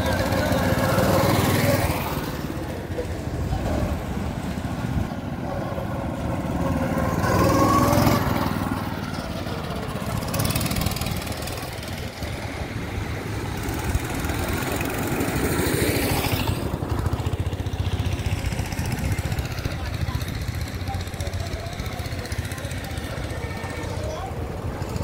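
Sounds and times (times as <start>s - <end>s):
go-kart engines running: 0.0s - 25.0s.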